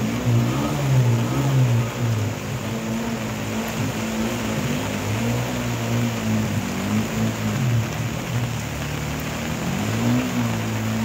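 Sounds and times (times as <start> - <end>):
heavy rain: 0.0 - 11.0
rushing water: 0.0 - 11.0
vehicle engine humming: 0.0 - 11.0.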